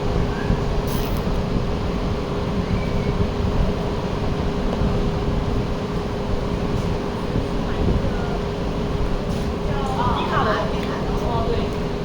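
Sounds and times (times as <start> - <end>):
ventilation machinery hum: 0.0 - 12.0.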